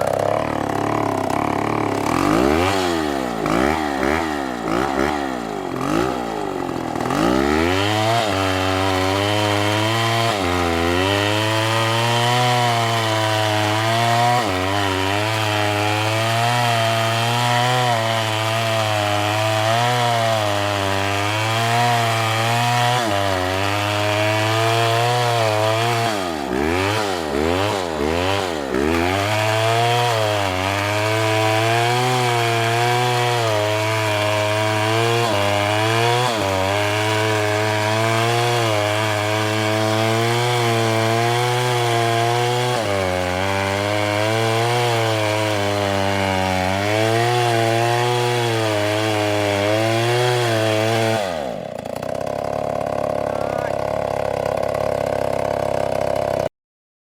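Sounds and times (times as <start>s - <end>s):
chainsaw cutting wood: 0.0s - 56.5s
chainsaw throttle blipping: 0.0s - 56.5s.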